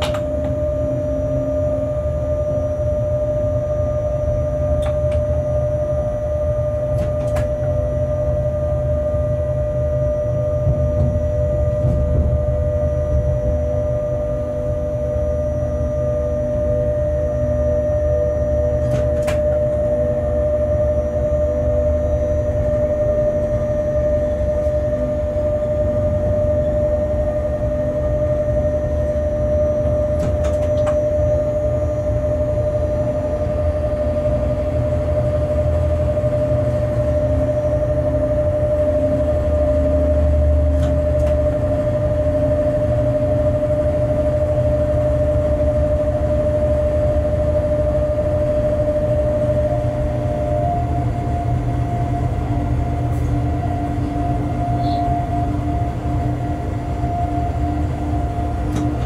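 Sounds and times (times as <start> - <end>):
high whine: 0.0 - 59.0
locomotive low rumble: 0.0 - 59.0.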